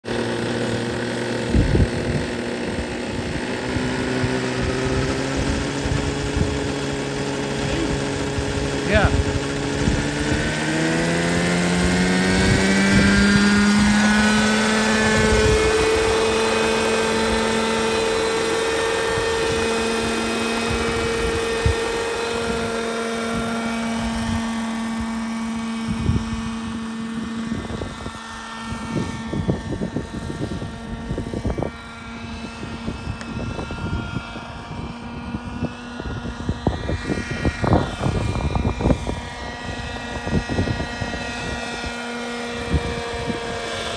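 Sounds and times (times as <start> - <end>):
model helicopter engine and rotor: 0.0 - 43.9.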